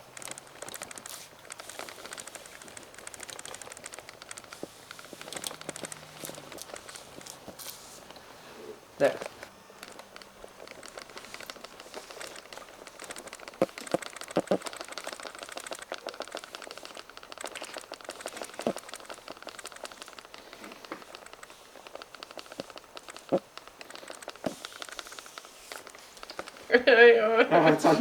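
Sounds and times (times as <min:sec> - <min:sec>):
sharp clicks: 0:00.0 - 0:08.2, 0:09.3 - 0:26.6
dense crackles and clicks: 0:00.0 - 0:27.7.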